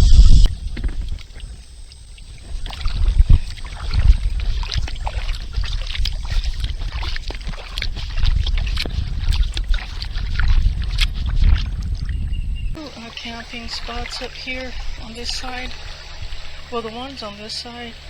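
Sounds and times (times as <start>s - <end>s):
low rumble: 0.0s - 17.4s
kayak paddle splashing: 0.0s - 18.0s.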